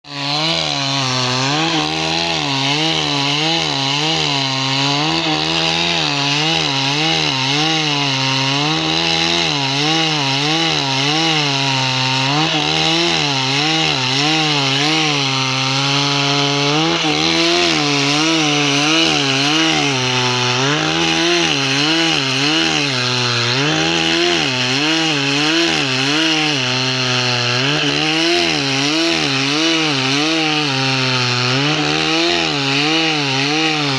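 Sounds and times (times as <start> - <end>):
chainsaw cutting timber: 0.0 - 33.9.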